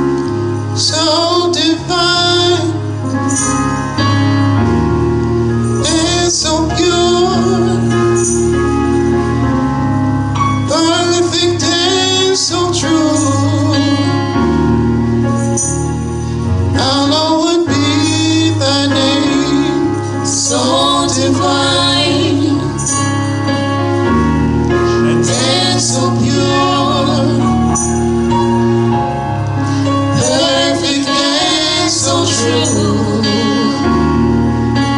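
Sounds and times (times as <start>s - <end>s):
sustained low bass notes: 0.0s - 34.9s
voices singing gospel song: 0.8s - 4.2s, 5.6s - 9.6s, 10.7s - 15.8s, 16.7s - 34.9s.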